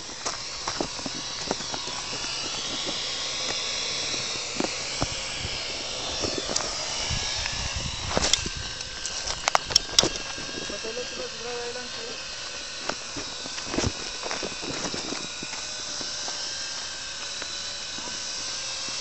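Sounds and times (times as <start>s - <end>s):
drone rotors whining: 0.0s - 19.0s.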